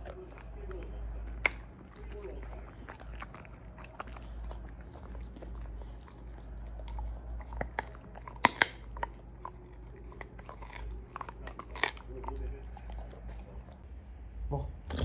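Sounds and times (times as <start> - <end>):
dog chewing and crunching food: 0.0 - 13.9.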